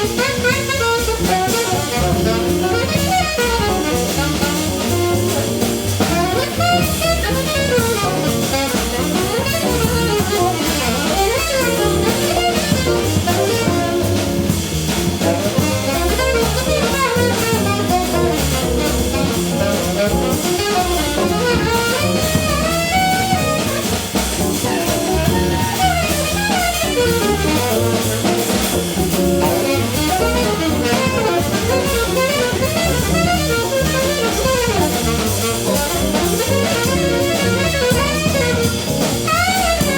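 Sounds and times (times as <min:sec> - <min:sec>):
bass: 0:00.0 - 0:39.9
drum kit: 0:00.0 - 0:39.9
guitar: 0:00.0 - 0:39.9
saxophone: 0:00.0 - 0:39.9.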